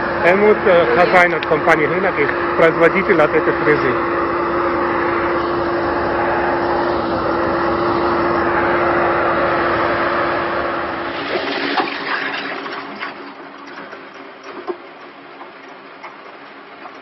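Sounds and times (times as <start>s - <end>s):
road milling machine roaring: 0.0s - 17.0s.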